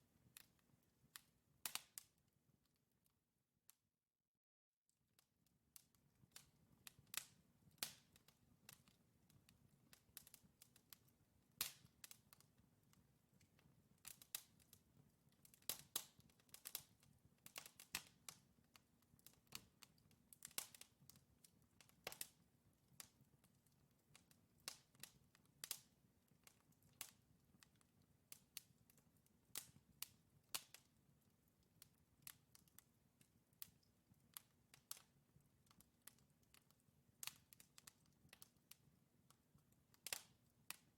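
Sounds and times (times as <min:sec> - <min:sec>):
wood fire crackling and popping: 0:00.2 - 0:02.2, 0:05.8 - 0:40.9.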